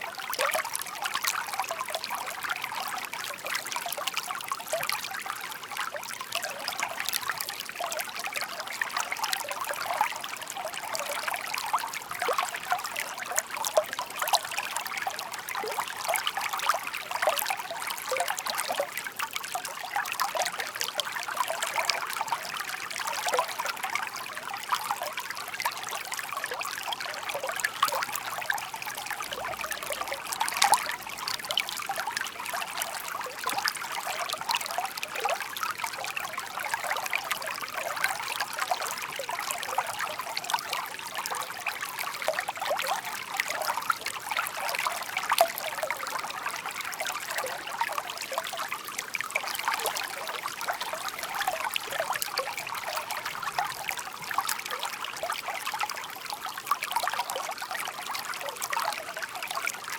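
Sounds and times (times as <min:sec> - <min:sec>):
shallow stream babbling over stones: 0:00.0 - 0:59.9.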